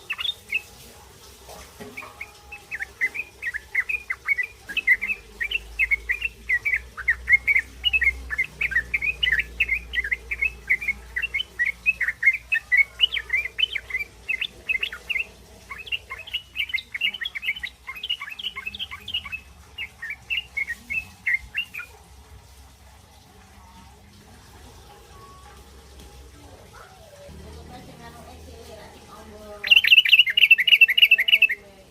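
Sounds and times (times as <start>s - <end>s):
young birds begging chirps: 0.0s - 22.1s, 28.4s - 31.9s.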